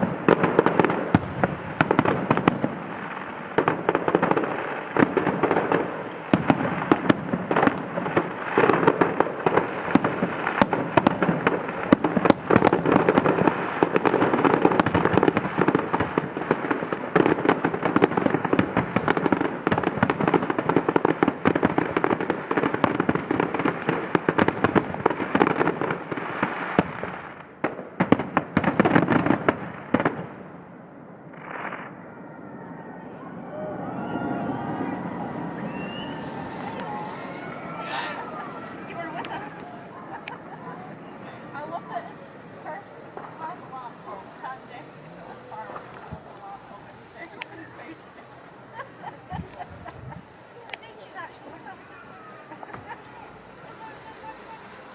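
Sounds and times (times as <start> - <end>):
fireworks bangs and crackle: 0.0 - 54.9.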